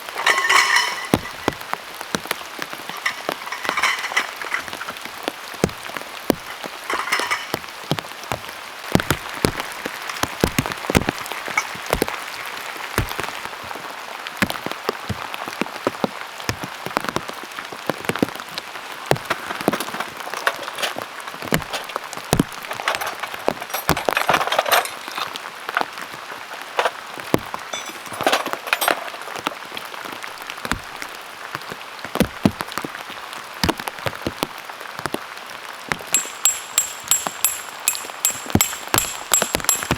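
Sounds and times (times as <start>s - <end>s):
heavy rain: 0.0s - 36.2s
large raindrops tapping: 0.0s - 39.9s.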